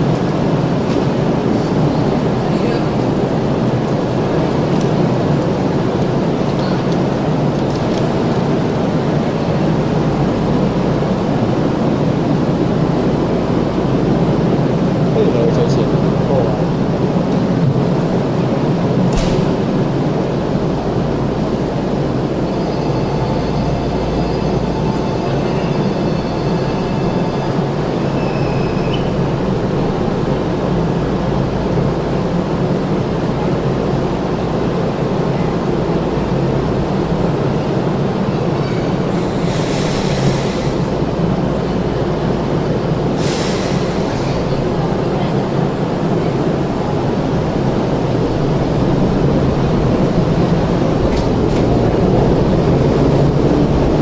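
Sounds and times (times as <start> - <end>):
electric train rumbling hum: 0.0 - 54.0.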